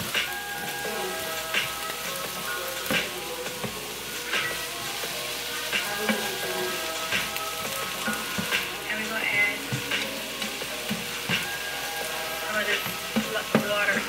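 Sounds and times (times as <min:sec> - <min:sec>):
peppers sizzling in a frying pan: 0:00.0 - 0:14.0
spatula scraping and knocking pan: 0:00.0 - 0:14.0.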